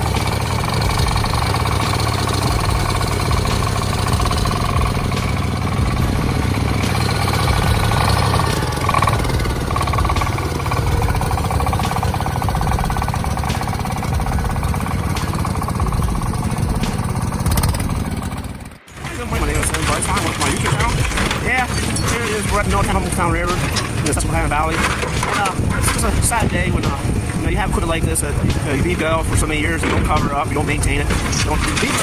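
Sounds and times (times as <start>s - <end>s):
heavy engine running: 0.0s - 32.0s.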